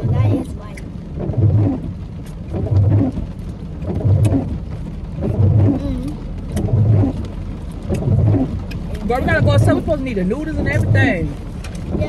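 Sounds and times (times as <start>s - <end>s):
deep bass beat: 0.0s - 12.0s.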